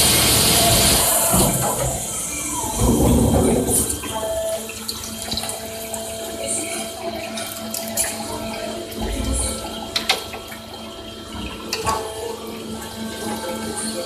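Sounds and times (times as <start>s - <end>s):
coolant splashing: 0.0s - 14.0s
lathe machining: 0.0s - 14.0s
machine hum: 0.0s - 14.0s.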